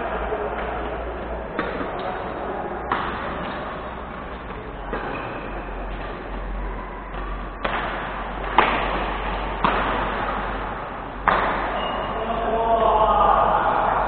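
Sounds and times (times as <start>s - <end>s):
background hubbub: 0.0s - 14.0s
rackets hitting shuttlecock: 0.4s - 12.2s.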